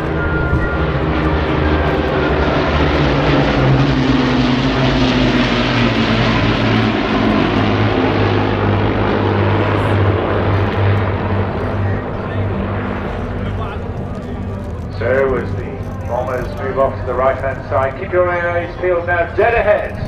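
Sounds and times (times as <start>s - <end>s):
propeller planes droning overhead: 0.0s - 20.0s.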